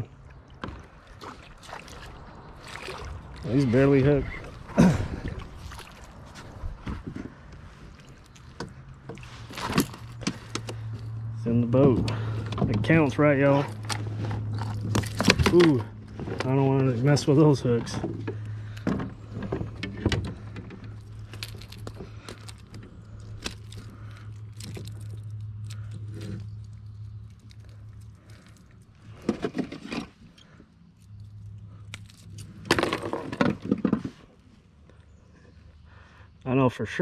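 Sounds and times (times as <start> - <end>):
low steady hum: 0.0 - 36.5.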